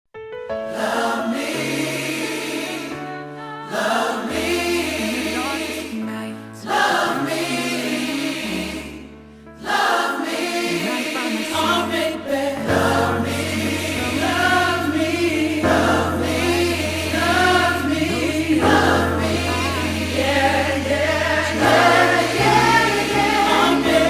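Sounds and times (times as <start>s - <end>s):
choir singing: 0.6s - 24.0s.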